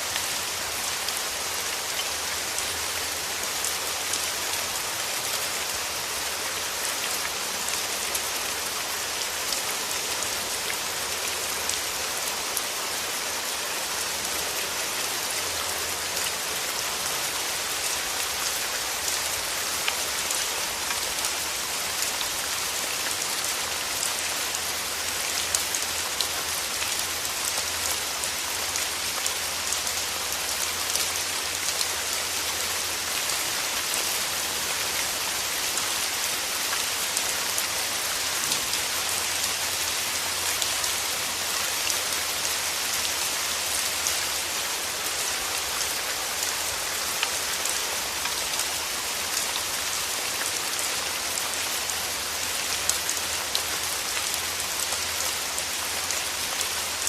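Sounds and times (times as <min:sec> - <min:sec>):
rain falling through trees: 0:00.0 - 0:57.0.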